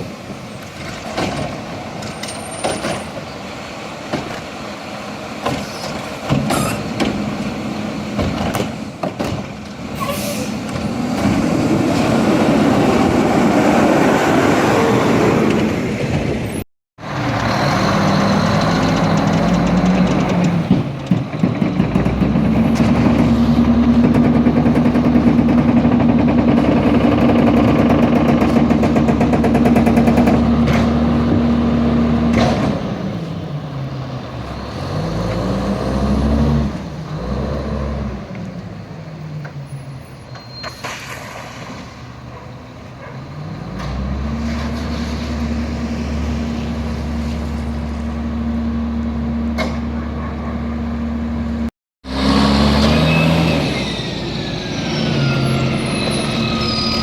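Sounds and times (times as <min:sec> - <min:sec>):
diesel garbage truck engine: 0:00.0 - 0:57.0.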